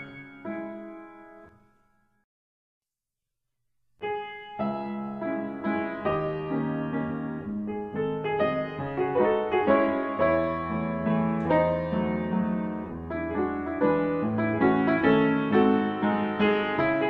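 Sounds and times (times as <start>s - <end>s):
gentle piano melody: 0.0s - 2.0s, 4.0s - 17.0s.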